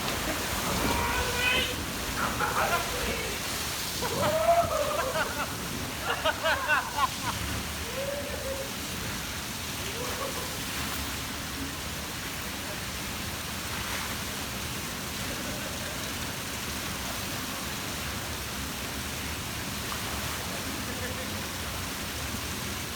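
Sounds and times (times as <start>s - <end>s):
falling and splashing water: 0.0s - 22.9s.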